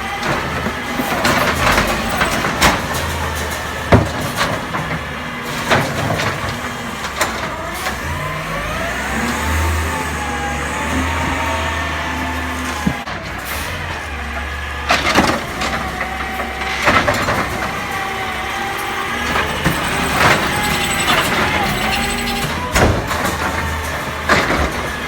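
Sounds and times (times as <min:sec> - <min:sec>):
garbage truck bangs: 0:00.0 - 0:25.0
truck engine revving: 0:00.0 - 0:25.0.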